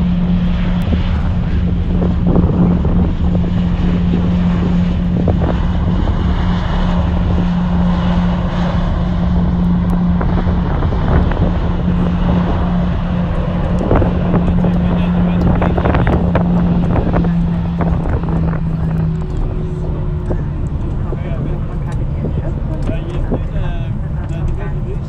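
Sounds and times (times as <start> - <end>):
jet engines humming: 0.0 - 25.0
rumble of airflow and wheels: 0.0 - 25.0.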